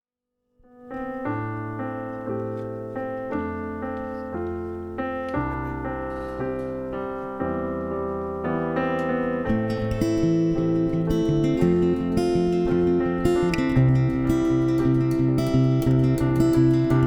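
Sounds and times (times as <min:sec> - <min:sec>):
keyboard playing slow chords: 0:00.7 - 0:17.0.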